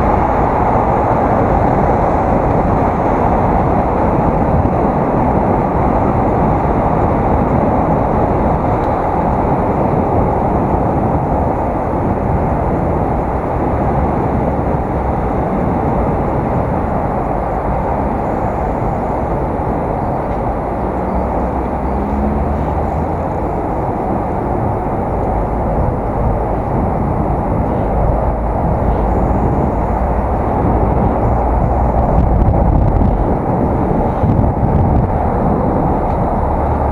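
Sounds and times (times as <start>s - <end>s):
loud wind rush on microphone: 0.0s - 36.9s.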